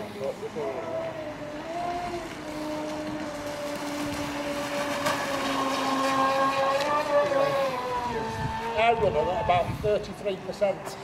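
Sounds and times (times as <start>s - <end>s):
model boat motor whine: 0.0s - 10.2s.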